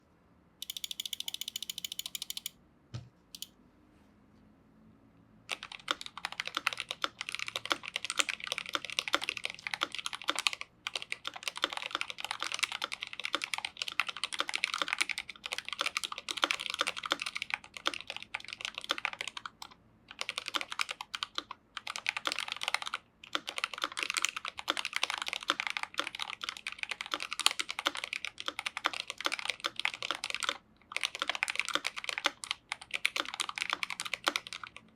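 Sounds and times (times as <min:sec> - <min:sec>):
fast typing on mechanical keyboard: 0:00.6 - 0:02.5, 0:05.5 - 0:34.9.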